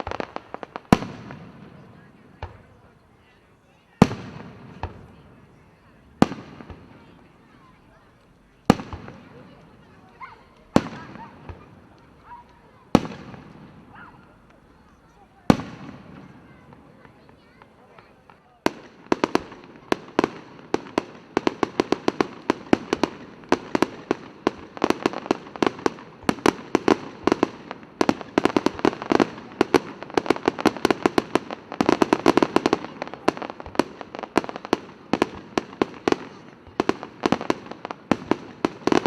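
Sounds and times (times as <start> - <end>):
fireworks bangs and cracks: 0.0 - 39.0.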